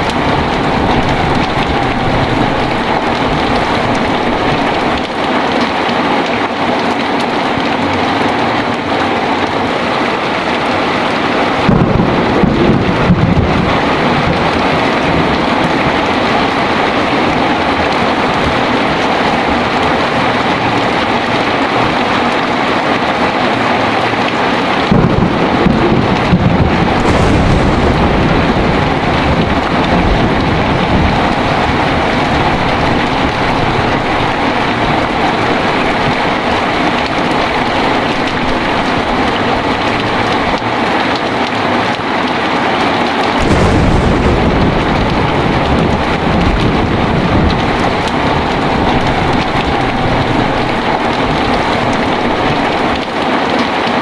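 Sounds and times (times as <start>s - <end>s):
thunder rumbling: 0.0s - 6.8s, 7.9s - 42.0s, 43.2s - 53.2s
heavy rain: 0.0s - 54.0s.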